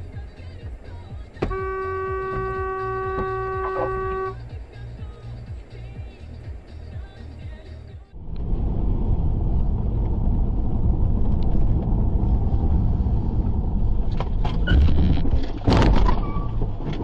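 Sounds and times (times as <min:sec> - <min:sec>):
engine and road noise: 0:00.0 - 0:17.0.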